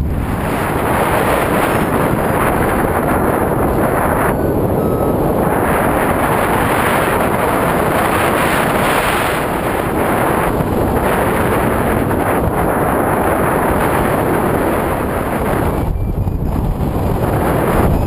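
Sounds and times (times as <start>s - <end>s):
wind noise on microphone: 0.0s - 18.0s.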